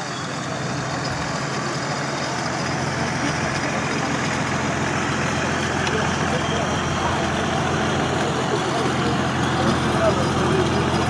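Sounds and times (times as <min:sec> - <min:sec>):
off-road vehicle engines idling: 0:00.0 - 0:11.0.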